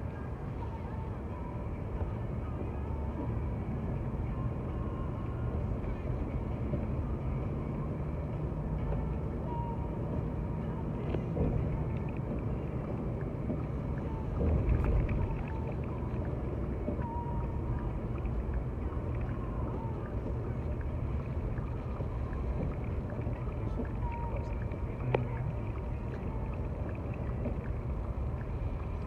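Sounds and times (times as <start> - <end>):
car cabin road and engine noise: 0.0 - 29.0.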